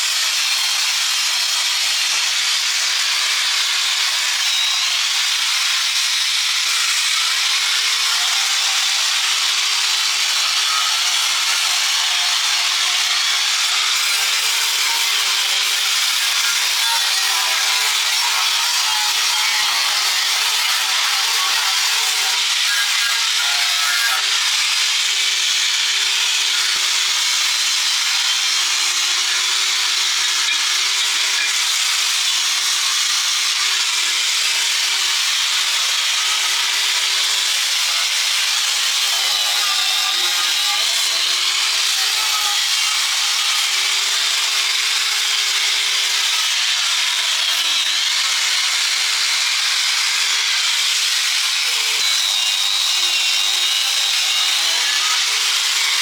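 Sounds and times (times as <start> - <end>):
power tool abrading steel: 0.0 - 56.0.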